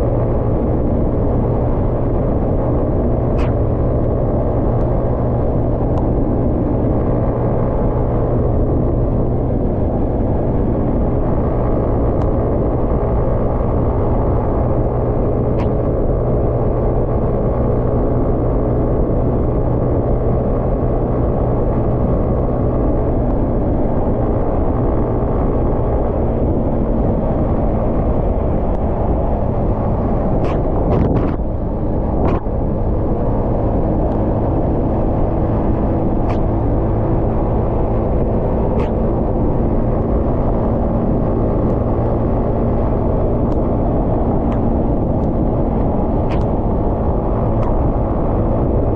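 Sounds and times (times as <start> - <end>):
motorcycle engine humming: 0.0 - 48.9
wind and road noise: 0.0 - 48.9.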